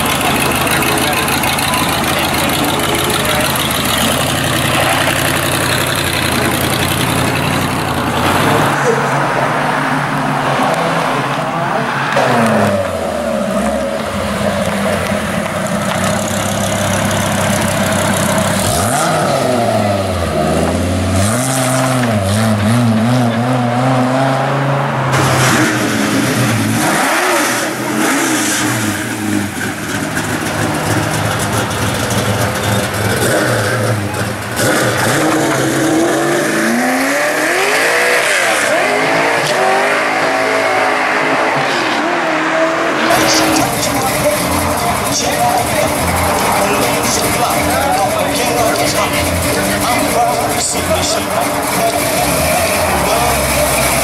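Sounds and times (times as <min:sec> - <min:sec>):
cars driving past revving: 0:00.0 - 0:54.0.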